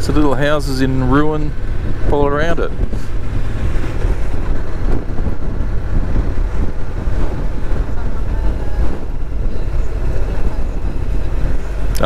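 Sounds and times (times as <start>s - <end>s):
motorcycle riding: 0.0s - 12.0s
wind rush on microphone: 0.0s - 12.0s.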